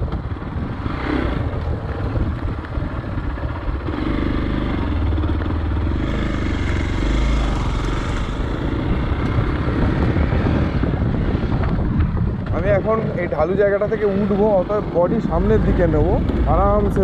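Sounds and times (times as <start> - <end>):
off-road motorcycle engine: 0.0 - 17.0.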